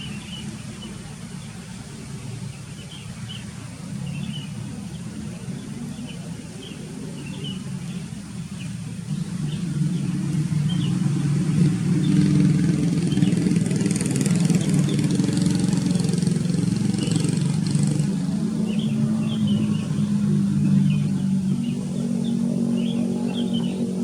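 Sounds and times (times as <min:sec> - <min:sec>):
motor engine humming: 0:03.9 - 0:24.0.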